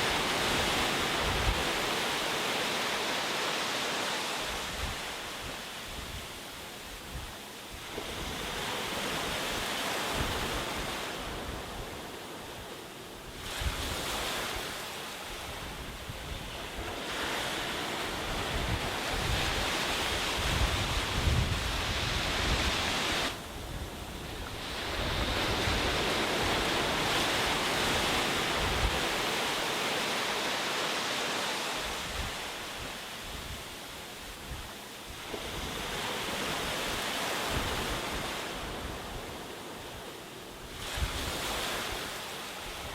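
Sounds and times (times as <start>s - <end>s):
sea waves breaking on a beach: 0.0s - 42.9s.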